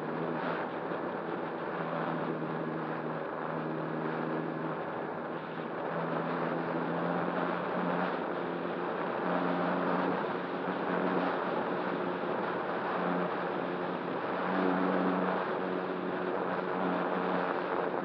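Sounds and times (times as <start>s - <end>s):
model glider motor hum: 0.0s - 18.0s
wind rushing over microphone: 0.0s - 18.0s.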